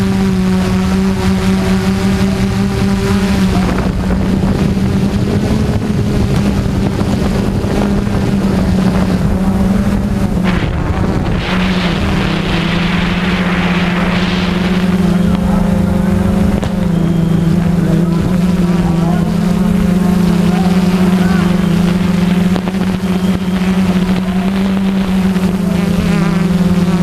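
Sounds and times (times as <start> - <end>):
drone propellers humming: 0.0 - 27.0
wind noise on microphone: 0.0 - 27.0.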